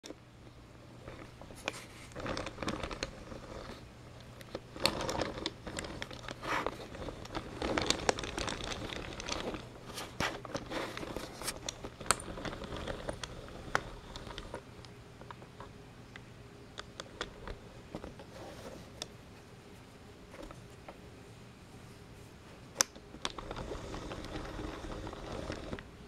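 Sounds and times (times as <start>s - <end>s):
faint low hum: 0.0s - 26.0s
rustling and scraping: 0.5s - 15.8s, 16.8s - 26.0s.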